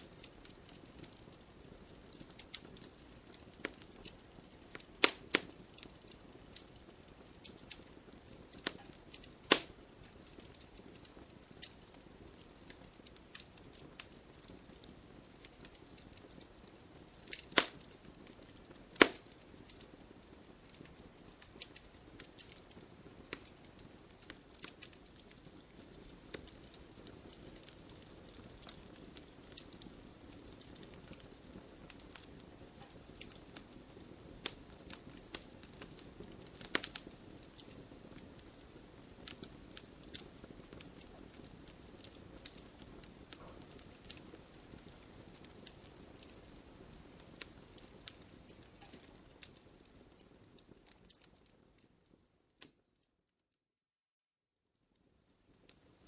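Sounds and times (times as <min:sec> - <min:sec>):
fire pops and snaps: 0:00.0 - 0:52.8, 0:55.0 - 0:56.0
wood fire crackling: 0:00.0 - 0:53.1, 0:54.9 - 0:56.0.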